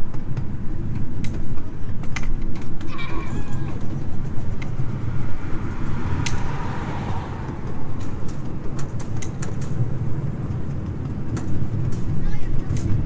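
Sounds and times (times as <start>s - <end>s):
sharp clicks and clacks: 0.0s - 13.0s
train wheels rumbling on rail: 0.0s - 13.0s.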